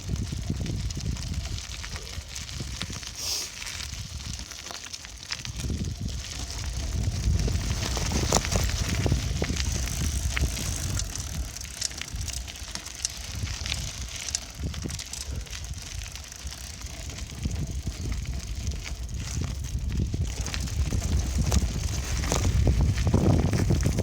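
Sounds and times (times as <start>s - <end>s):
bicycle clicks and rattles: 0.0s - 24.0s
wind and rolling rumble: 0.0s - 24.0s.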